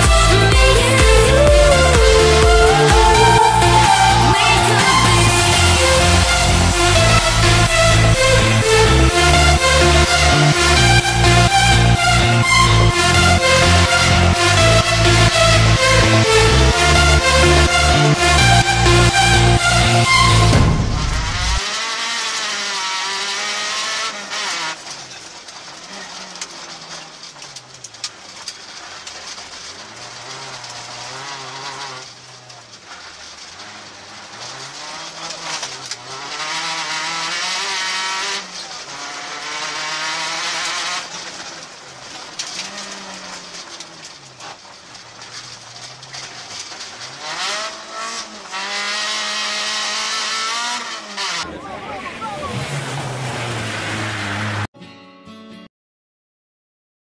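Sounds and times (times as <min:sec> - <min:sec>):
car engine revving: 0:00.0 - 0:54.7.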